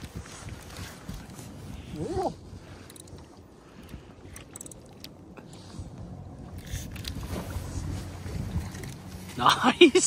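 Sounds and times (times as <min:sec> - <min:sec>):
low wind: 0:00.0 - 0:10.0
water noise around boat: 0:00.0 - 0:10.0.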